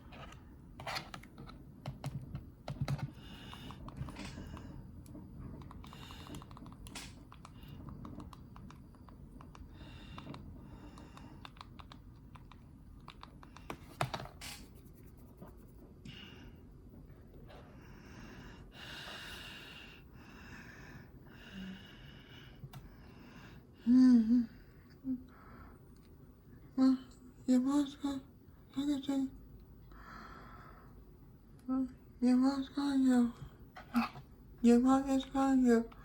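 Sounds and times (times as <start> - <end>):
ceiling fan whirring: 0.0 - 36.0.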